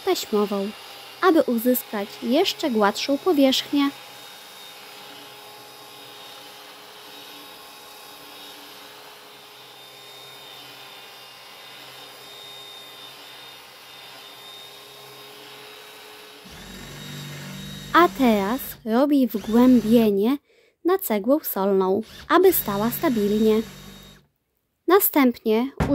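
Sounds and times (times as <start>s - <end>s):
belt sander on wood: 0.0s - 20.1s, 22.0s - 24.2s.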